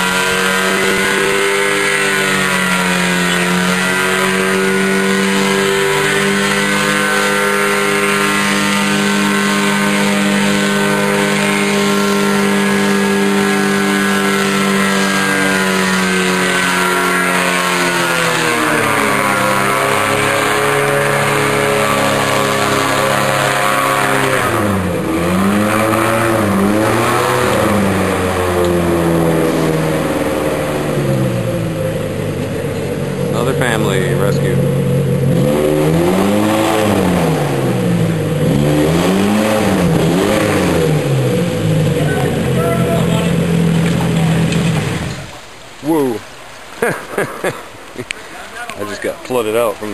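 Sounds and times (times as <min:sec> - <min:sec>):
airboat engine and propeller: 0:00.0 - 0:49.9.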